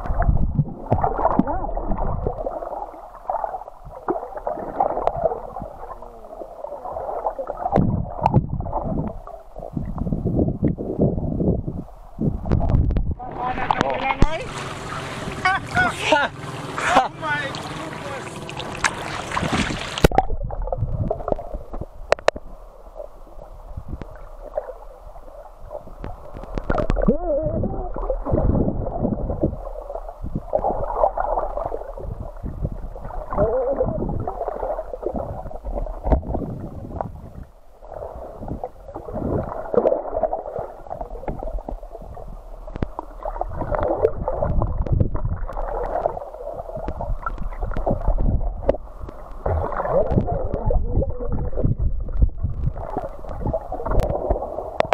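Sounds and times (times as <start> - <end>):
water gurgling underwater: 0.0 - 15.8, 16.7 - 54.9.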